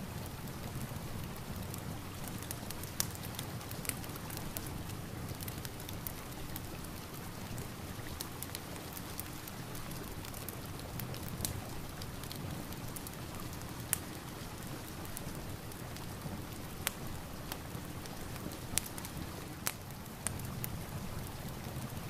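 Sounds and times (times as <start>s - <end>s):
fireplace crackling and popping: 0.0s - 22.0s
steady rain: 0.0s - 22.0s.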